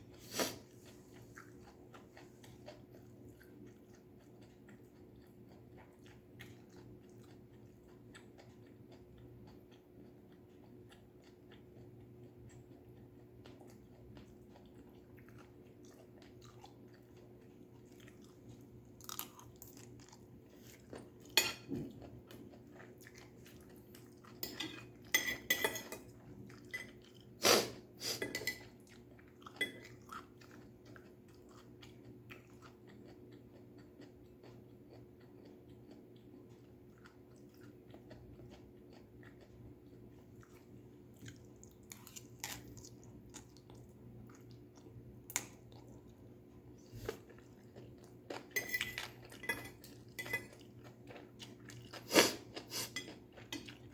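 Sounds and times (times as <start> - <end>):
chewing and crunching food: 0.0 - 53.9
faint steady hum: 0.0 - 53.9.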